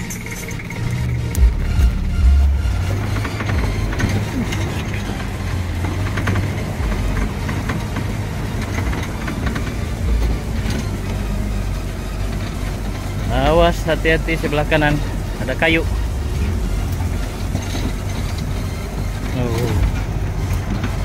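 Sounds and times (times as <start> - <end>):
knocks and rattles: 0.0 - 21.0
off-road engines rumbling: 0.0 - 21.0.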